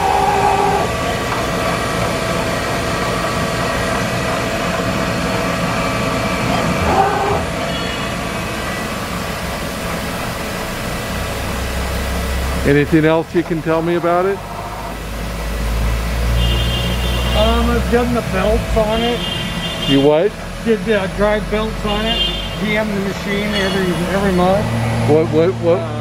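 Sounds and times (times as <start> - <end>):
milling machine humming: 0.0 - 26.0.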